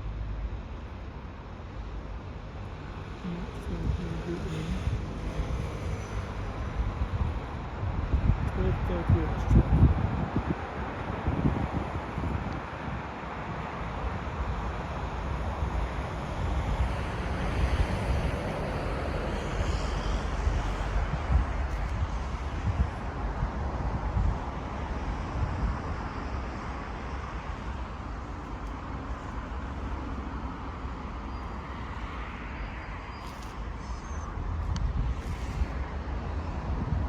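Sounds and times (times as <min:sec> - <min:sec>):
wind buffeting microphone: 0:03.3 - 0:30.0, 0:33.6 - 0:37.0.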